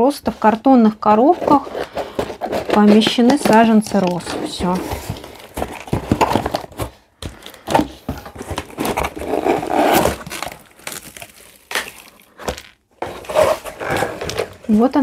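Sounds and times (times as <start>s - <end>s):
cardboard scraping and rustling: 1.1s - 15.0s.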